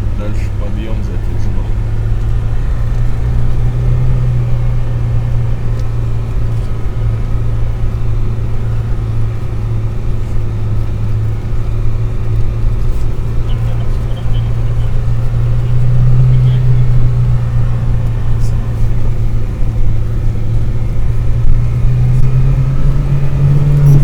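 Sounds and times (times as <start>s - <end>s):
car engine running: 0.0s - 24.0s
road rumble: 0.0s - 24.0s.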